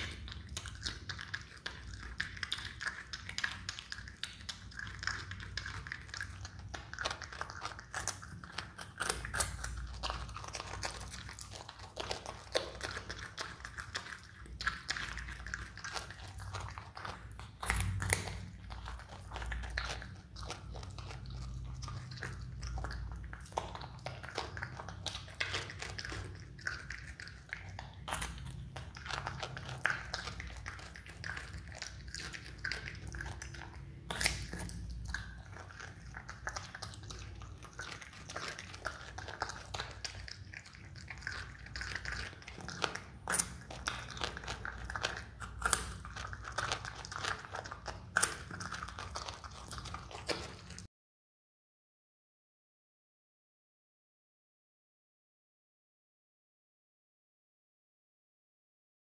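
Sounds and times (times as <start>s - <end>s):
animal gnawing carrot: 0.0s - 50.9s.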